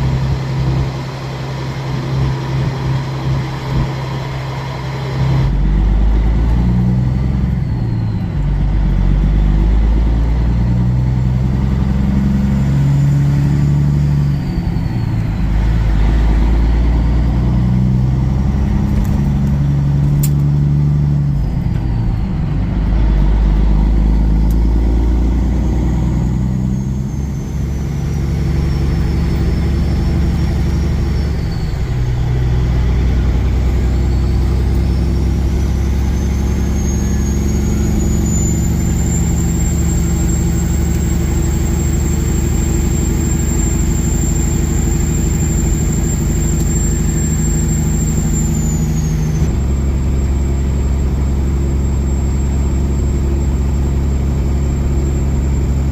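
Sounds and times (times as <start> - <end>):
high whine: 0.0 - 55.9
truck diesel engine under load: 0.0 - 55.9.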